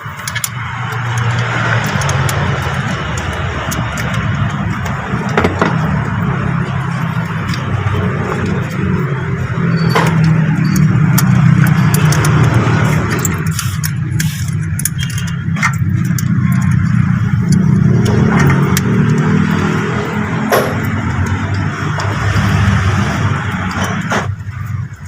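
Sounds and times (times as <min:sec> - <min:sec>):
wrench clicking on metal: 0:00.0 - 0:24.0.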